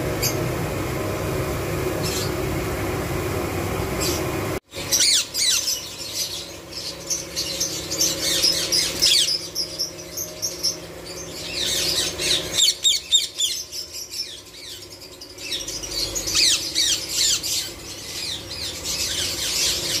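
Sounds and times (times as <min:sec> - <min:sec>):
parakeets chattering and screeching: 0:00.0 - 0:02.7, 0:03.7 - 0:20.0.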